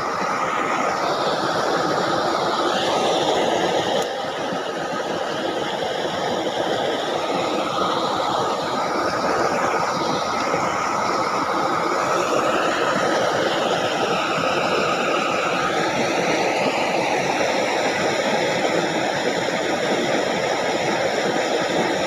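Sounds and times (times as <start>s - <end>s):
water rushing in a ditch: 0.0s - 22.0s.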